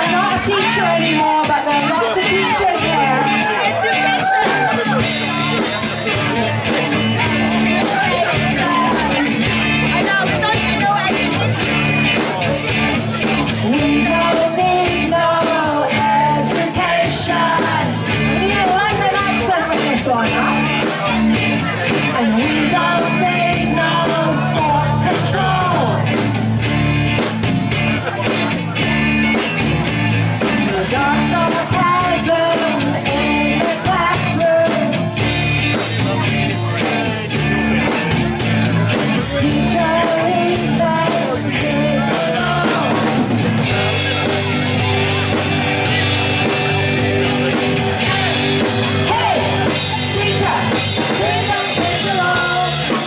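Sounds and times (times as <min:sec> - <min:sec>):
lead singer singing: 0:00.0 - 0:26.5, 0:30.3 - 0:53.0
live rock band playing: 0:00.0 - 0:53.0.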